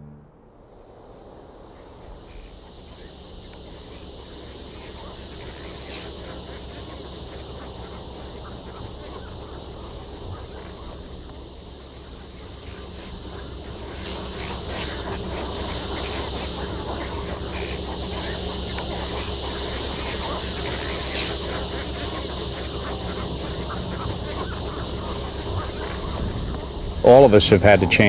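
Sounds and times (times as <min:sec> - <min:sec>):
high-pitched animal chorus: 0:03.8 - 0:28.0.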